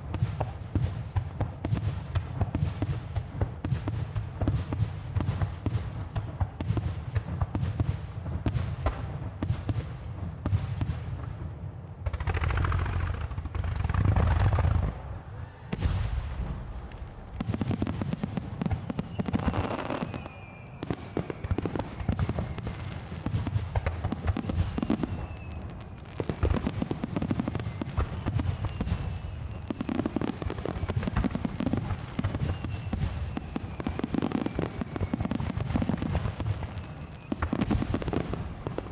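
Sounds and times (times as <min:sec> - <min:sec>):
fireworks bangs and crackle: 0:00.0 - 0:38.9
fireworks falling whistles: 0:00.0 - 0:38.9.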